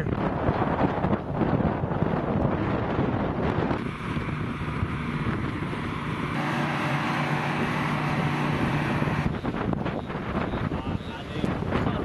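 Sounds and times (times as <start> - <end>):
strong wind on microphone: 0.0 - 12.0
steady low hum: 0.1 - 11.7.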